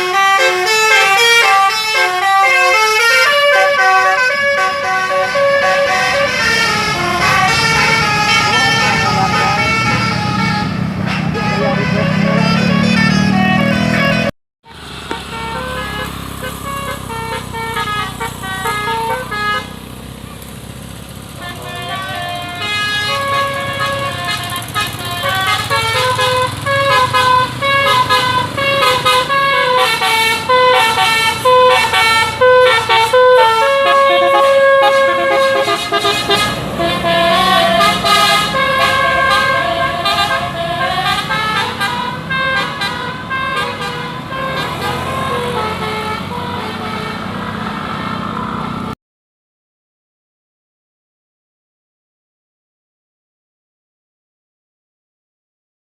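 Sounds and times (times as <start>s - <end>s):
musical bus air horn: 0.0s - 20.0s, 21.4s - 48.9s
engine and traffic rumble: 0.0s - 49.0s.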